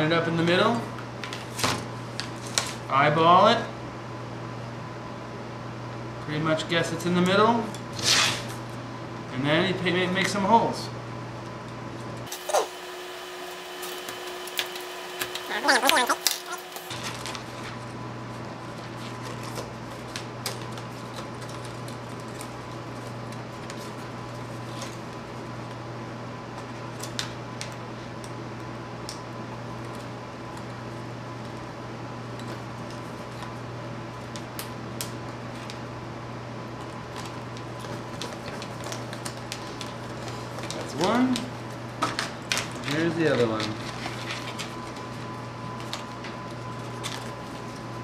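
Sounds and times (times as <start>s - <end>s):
steady electric hum: 0.0s - 48.0s.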